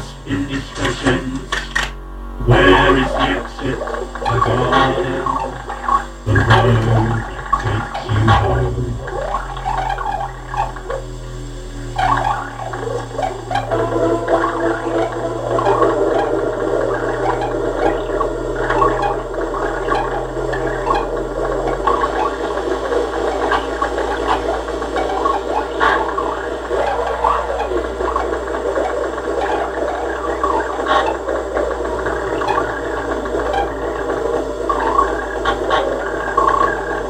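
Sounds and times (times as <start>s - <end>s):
electronic crackling and clicking: 0.0s - 37.0s
low synthesizer drone: 0.0s - 37.0s.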